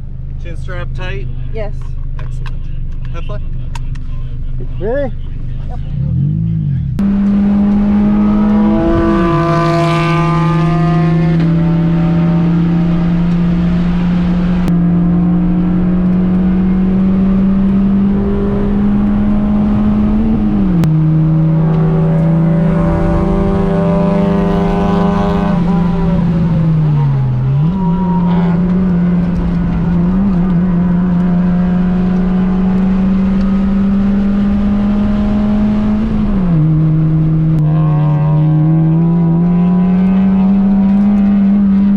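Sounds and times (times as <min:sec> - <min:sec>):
car engine revving from inside cabin: 0:06.0 - 0:41.9.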